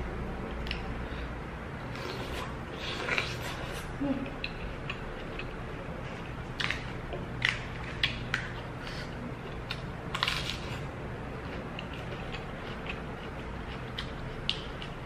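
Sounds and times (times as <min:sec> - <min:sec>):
low steady hum: 0:00.0 - 0:15.0
person chewing: 0:01.9 - 0:15.0.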